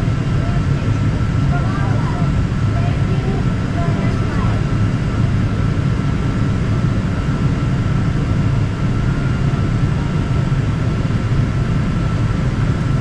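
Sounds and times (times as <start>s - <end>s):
low cabin rumble: 0.0s - 13.0s
thin steady whine: 0.0s - 13.0s.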